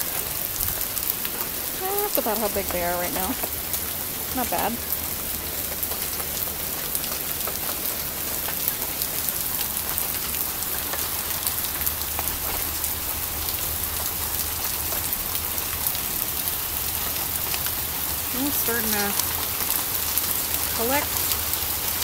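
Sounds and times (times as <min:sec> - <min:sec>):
hail and rain pattering on ground: 0:00.0 - 0:22.0.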